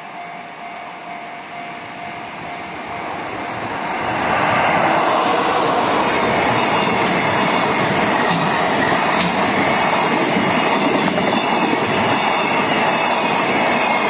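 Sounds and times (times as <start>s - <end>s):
freight train passing: 0.0s - 14.0s.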